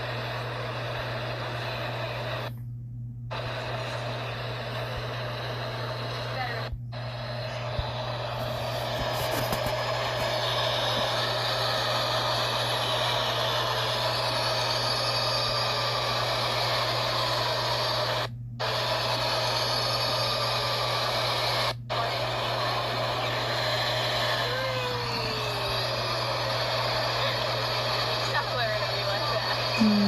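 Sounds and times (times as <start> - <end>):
constant low hum: 0.0 - 30.0.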